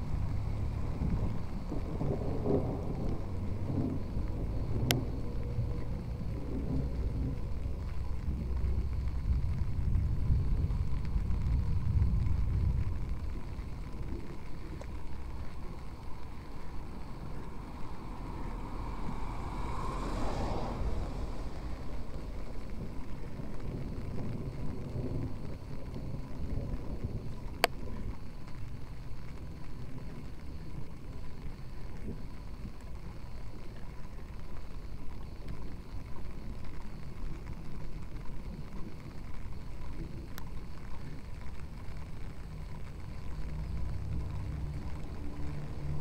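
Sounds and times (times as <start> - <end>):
low traffic rumble: 0.0 - 46.0
vehicle passing on wet road: 0.0 - 46.0.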